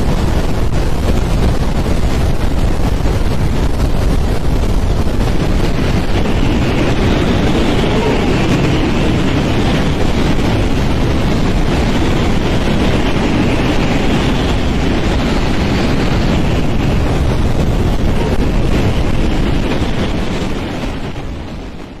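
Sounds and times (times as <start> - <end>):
strong wind rushing: 0.0 - 22.0.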